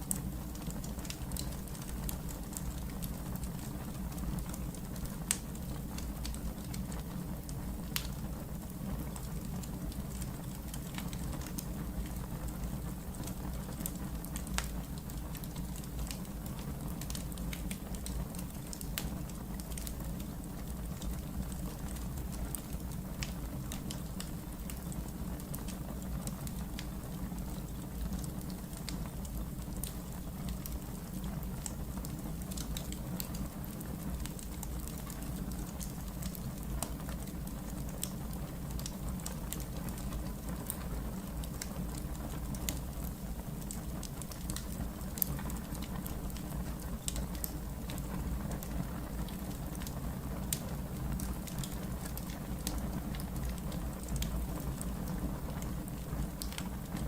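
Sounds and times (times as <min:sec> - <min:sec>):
low rumble of fire: 0:00.0 - 0:57.0
wood fire crackling and popping: 0:00.0 - 0:57.0.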